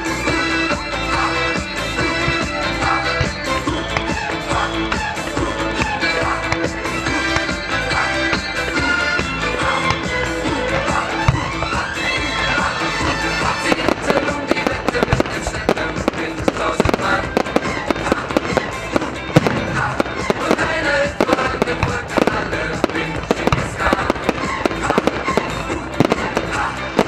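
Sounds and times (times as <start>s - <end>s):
fireworks bangs and crackles: 0.0s - 27.0s
music: 0.0s - 27.0s.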